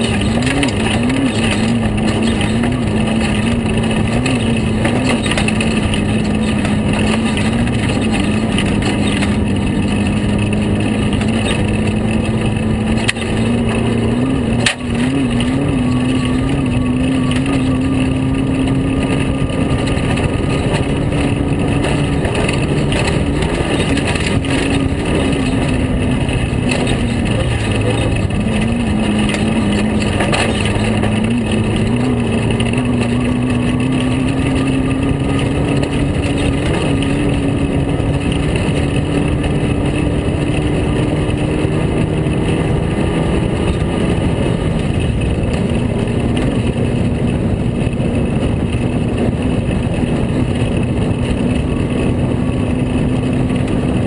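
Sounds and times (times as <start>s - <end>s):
knocks from rough track: 0.0s - 51.7s
engine running at high revs: 0.0s - 54.0s
wind and road noise: 0.0s - 54.0s.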